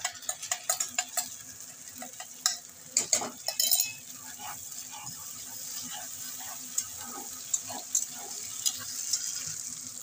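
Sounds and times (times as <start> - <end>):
spatula scraping and tapping pan: 0.0 - 9.5
onions sizzling in hot oil: 0.0 - 10.0.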